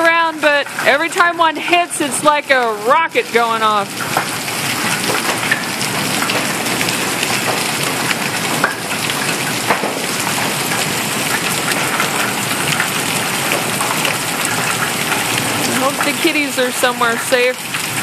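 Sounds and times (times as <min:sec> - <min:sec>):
large hailstones clattering: 0:00.0 - 0:18.0.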